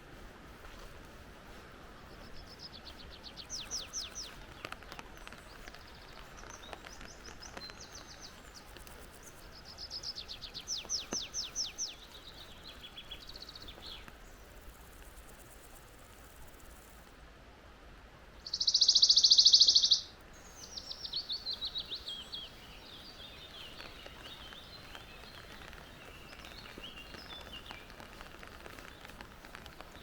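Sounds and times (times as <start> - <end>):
faint background hiss: 0.0 - 30.0
songbird singing: 1.5 - 17.1, 18.4 - 30.0.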